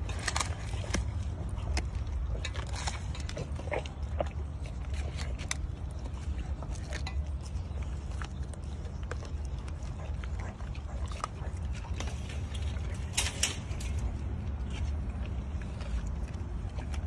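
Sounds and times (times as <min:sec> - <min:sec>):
dog chewing and crunching: 0:00.0 - 0:17.0
steady low rumble: 0:00.0 - 0:17.0.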